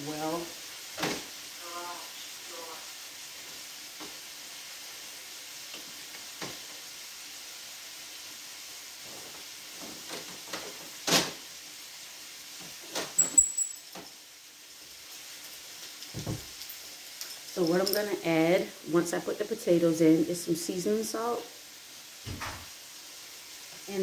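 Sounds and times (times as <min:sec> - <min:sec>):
bacon sizzling in a frying pan: 0:00.0 - 0:24.0.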